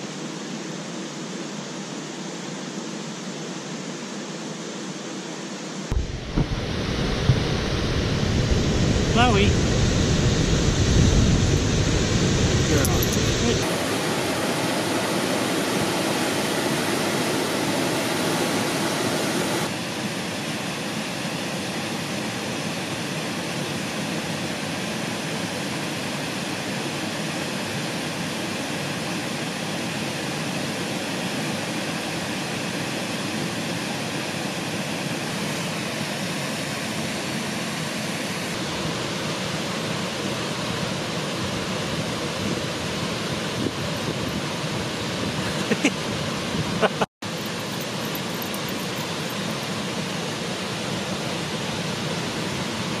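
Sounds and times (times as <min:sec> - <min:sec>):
flowing water rushing: 0:05.9 - 0:53.0.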